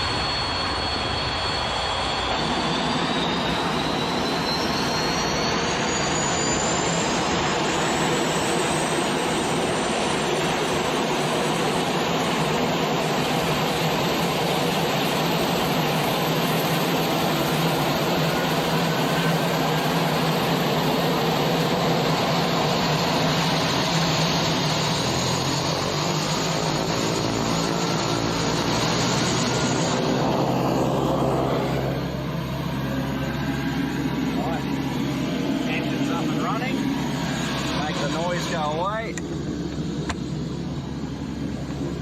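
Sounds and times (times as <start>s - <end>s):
turboprop engines running: 0.0s - 42.0s.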